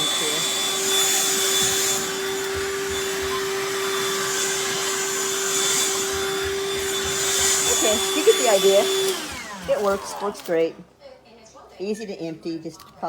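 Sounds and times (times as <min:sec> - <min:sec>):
handheld vacuum running: 0:00.0 - 0:10.8.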